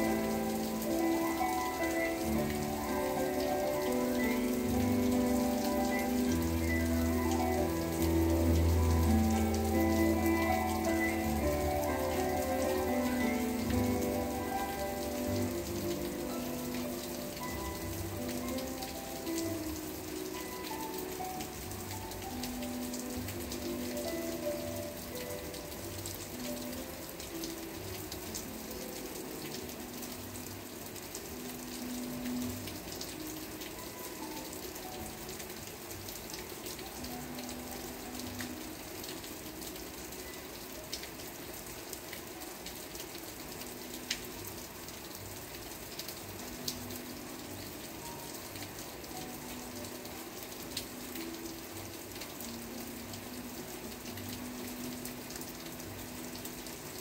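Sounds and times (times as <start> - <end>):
soft low background music: 0.0 - 57.0
steady rain falling: 0.0 - 57.0.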